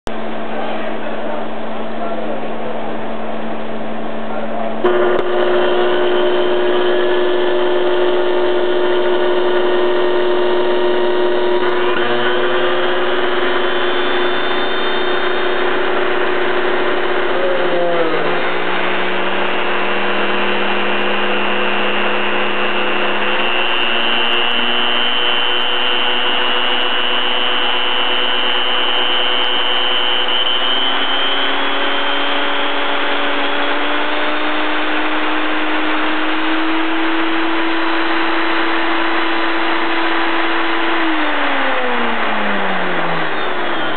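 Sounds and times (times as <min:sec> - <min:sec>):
blender motor running: 0:04.8 - 0:43.9.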